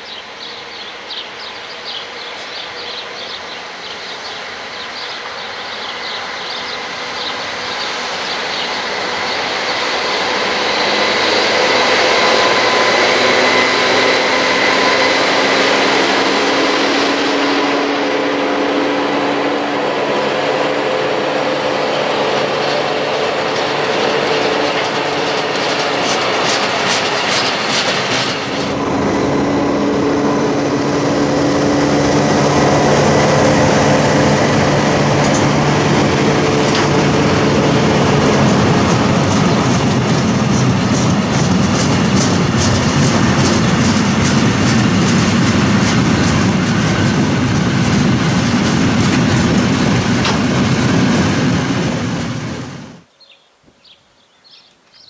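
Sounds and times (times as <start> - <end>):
diesel locomotive engine: 0.0 - 53.1
wagon wheels rumbling on rails: 1.9 - 53.1.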